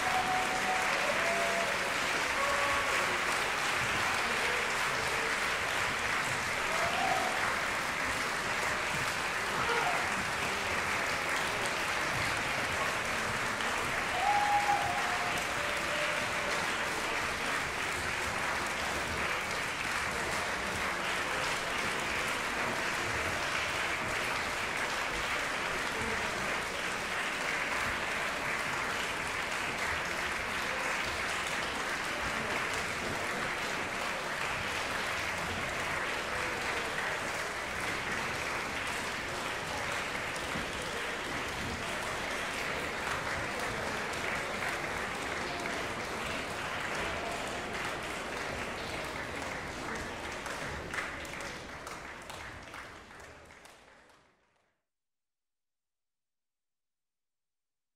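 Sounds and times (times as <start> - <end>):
call from the crowd: 0.0 - 50.3
audience applauding: 0.0 - 54.4.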